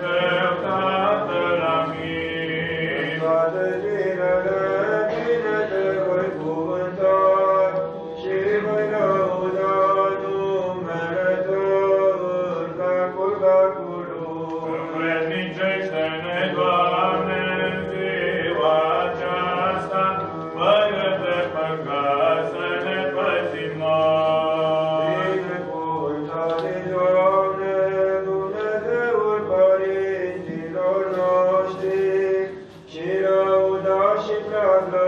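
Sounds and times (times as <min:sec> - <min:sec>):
voices chanting a slow hymn: 0:00.0 - 0:35.0.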